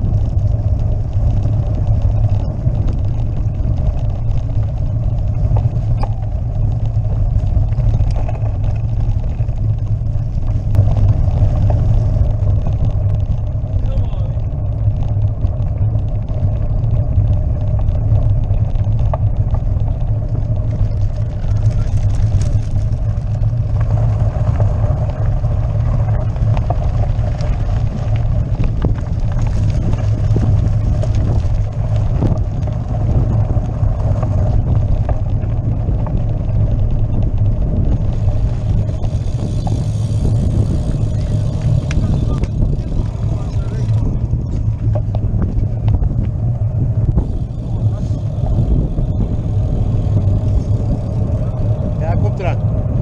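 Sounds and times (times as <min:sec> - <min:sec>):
bicycle rattling over cobblestones: 0:00.0 - 0:53.0.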